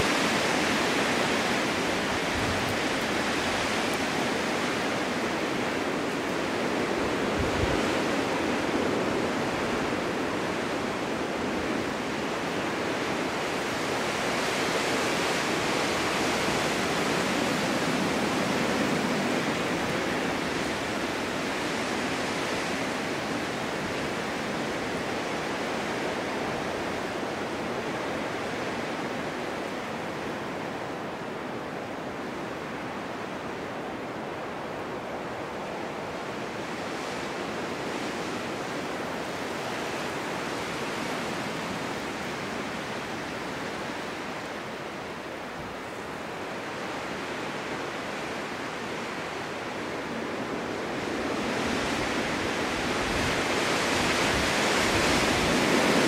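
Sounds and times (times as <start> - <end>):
wind rushing through forest: 0.0 - 56.0.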